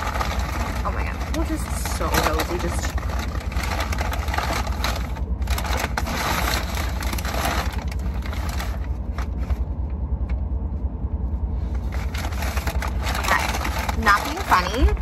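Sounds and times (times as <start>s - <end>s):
takeout bag rustling: 0.0s - 9.7s, 11.7s - 15.0s
car low rumble: 0.0s - 15.0s.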